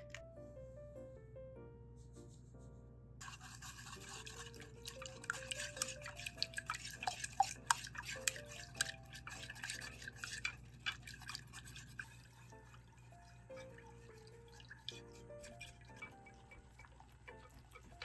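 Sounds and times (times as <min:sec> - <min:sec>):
soft background music: 0:00.0 - 0:18.0
utensil scraping in a bowl: 0:03.2 - 0:18.0.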